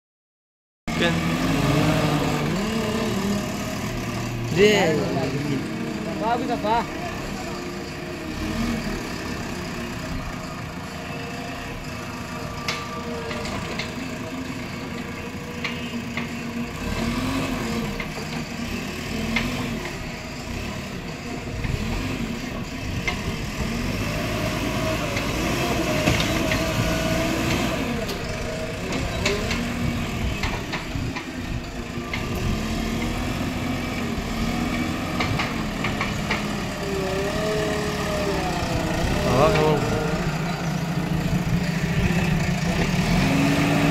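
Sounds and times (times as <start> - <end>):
diesel engine revving under load: 0.9 - 43.9
loader bucket pushing soil: 0.9 - 43.9.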